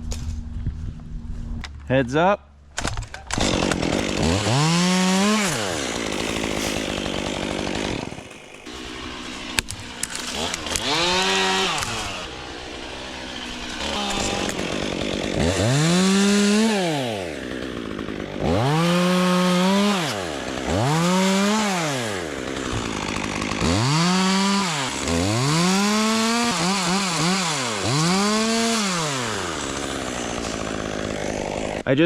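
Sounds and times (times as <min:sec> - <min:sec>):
chainsaw revving: 0:02.8 - 0:32.0.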